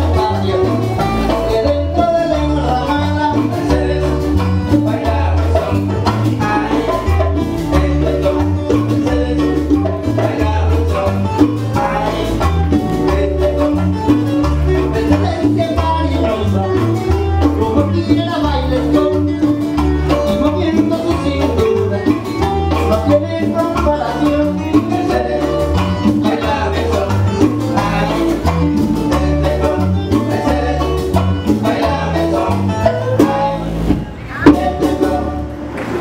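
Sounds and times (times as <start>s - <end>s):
person singing: 0.0s - 35.5s
live son band playing: 0.0s - 36.0s.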